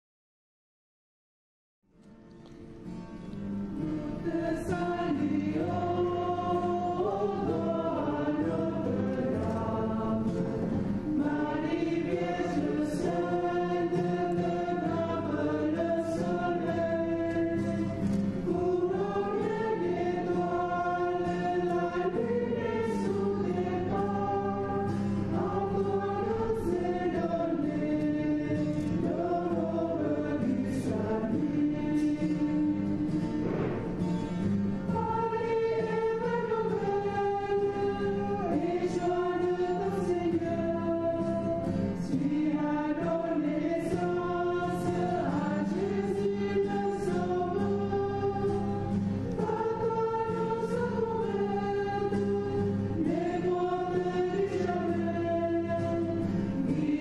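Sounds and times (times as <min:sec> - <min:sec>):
choir singing slow melody: 0:03.7 - 0:57.0.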